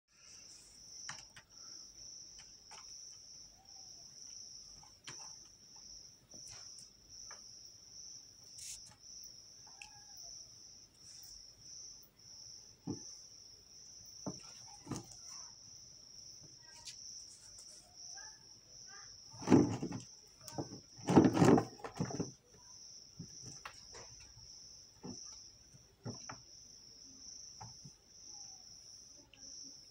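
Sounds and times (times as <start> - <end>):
crickets chirping: 0.1 - 29.9.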